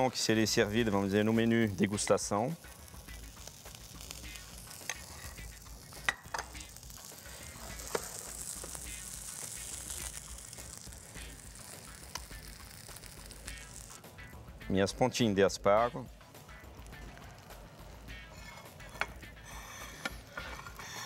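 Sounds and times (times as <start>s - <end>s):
oil sizzling in a frying pan: 0.0s - 14.4s, 15.2s - 21.0s.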